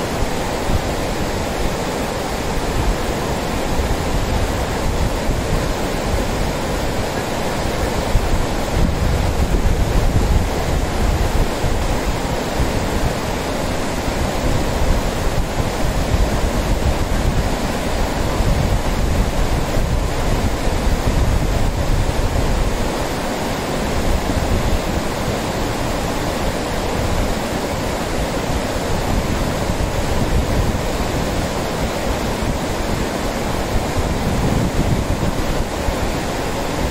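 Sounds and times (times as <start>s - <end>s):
river rushing over rapids: 0.0s - 36.9s
wind buffeting microphone: 0.0s - 36.9s.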